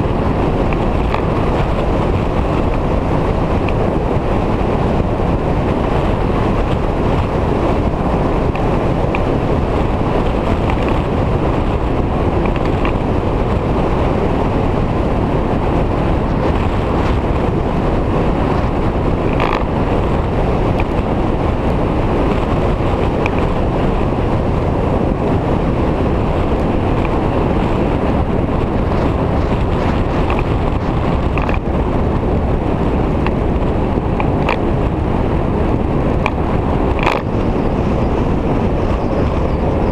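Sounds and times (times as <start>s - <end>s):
motorcycle running at speed: 0.0s - 39.9s
wind over microphone: 0.0s - 39.9s.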